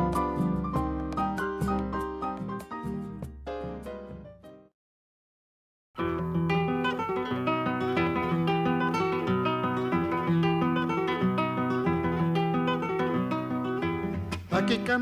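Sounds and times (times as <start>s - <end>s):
acoustic guitar music: 0.0s - 4.3s, 6.0s - 15.0s.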